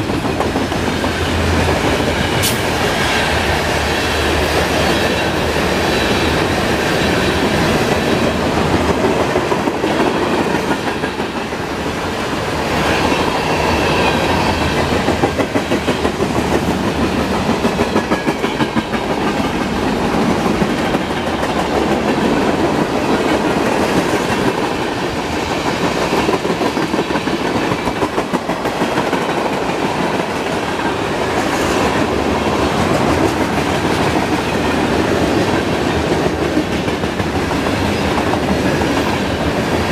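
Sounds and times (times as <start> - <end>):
freight train rolling rumble: 0.0 - 39.9
train wheels clattering on rails: 0.0 - 39.9.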